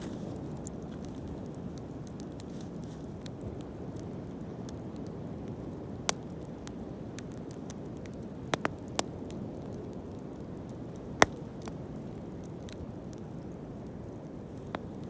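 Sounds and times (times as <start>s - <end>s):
sharp pops of burning wood: 0.0s - 15.0s
wood fire crackling: 0.0s - 15.0s.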